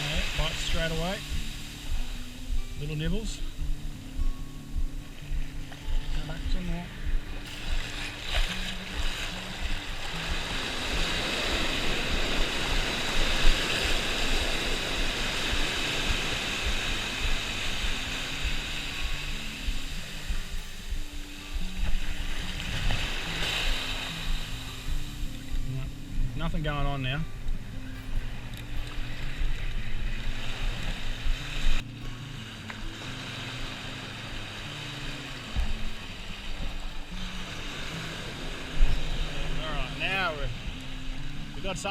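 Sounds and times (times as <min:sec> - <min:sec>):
surf washing onto beach: 0:00.0 - 0:04.0, 0:05.1 - 0:41.9
wind rumbling on microphone: 0:00.0 - 0:41.9.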